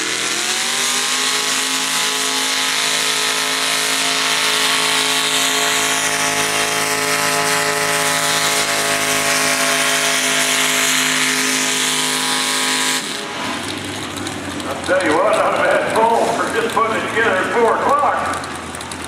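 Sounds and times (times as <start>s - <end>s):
tractor engine at full throttle: 0.0s - 19.0s.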